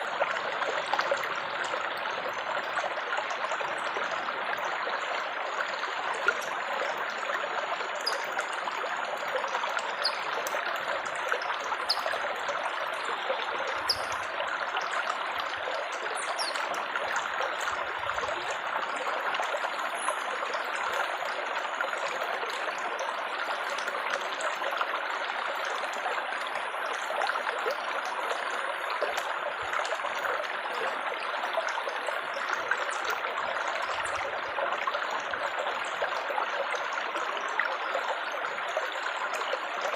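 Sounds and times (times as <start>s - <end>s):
faint drip-like ticks: 0.0s - 39.9s
water trickling and splashing: 0.0s - 39.9s.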